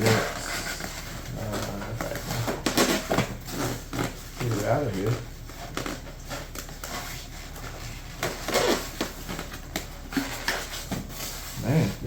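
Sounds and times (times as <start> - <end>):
foam packing rustling and scraping: 0.0 - 12.0.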